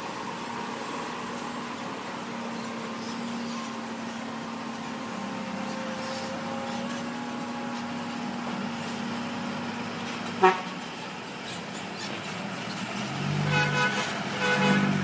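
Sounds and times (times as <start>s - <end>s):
diesel machinery humming: 0.0s - 15.0s.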